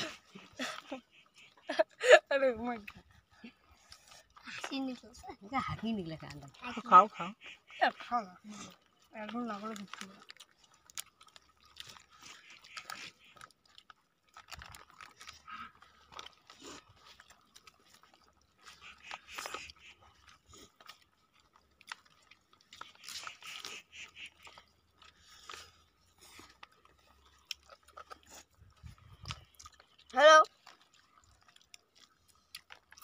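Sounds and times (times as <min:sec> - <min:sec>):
children chewing and smacking: 0:00.0 - 0:33.0.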